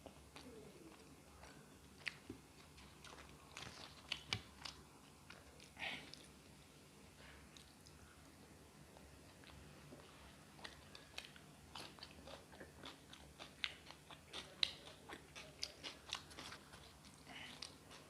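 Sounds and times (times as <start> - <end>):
person chewing crunchy food: 0.0 - 6.4, 9.0 - 18.0.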